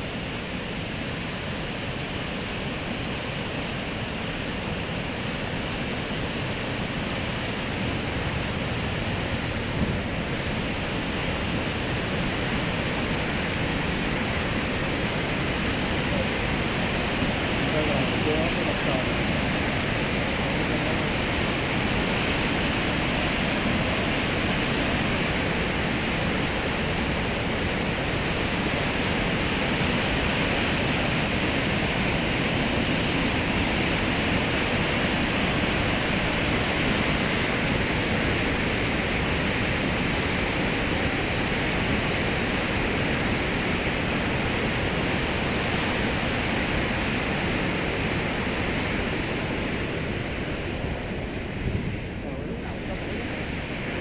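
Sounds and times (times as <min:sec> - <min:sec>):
water rushing through dam spillway: 0:00.0 - 0:54.0.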